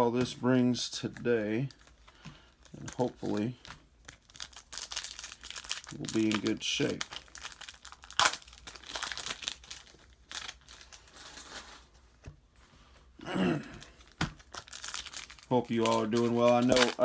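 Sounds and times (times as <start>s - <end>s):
plastic wrapper crinkling and tearing: 1.1s - 12.2s, 13.7s - 17.0s.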